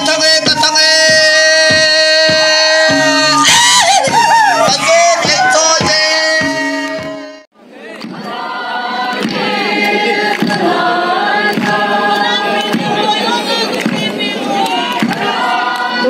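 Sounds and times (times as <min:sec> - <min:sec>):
crowd noise: 0:00.0 - 0:16.0
group singing folk song: 0:00.0 - 0:16.0.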